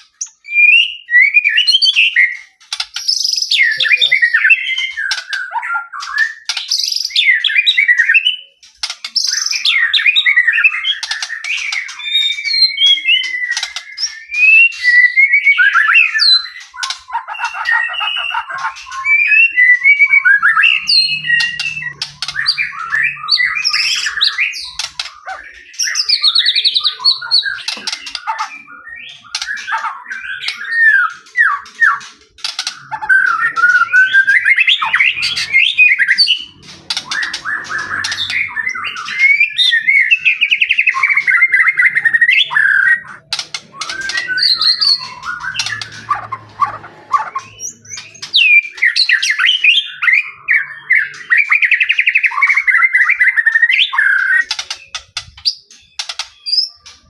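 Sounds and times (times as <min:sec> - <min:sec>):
bird singing whistled phrases: 0:00.2 - 0:02.5, 0:03.1 - 0:08.6, 0:09.2 - 0:32.0, 0:32.8 - 0:56.9.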